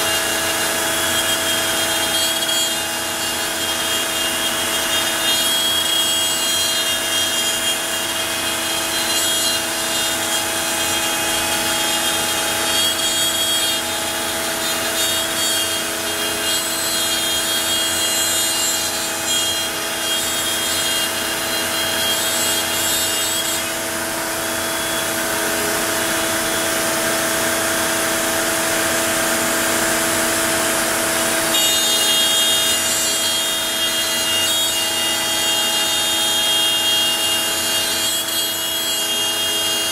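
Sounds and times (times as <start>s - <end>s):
router bit cutting: 0.0s - 39.9s
router spindle whine: 0.0s - 39.9s.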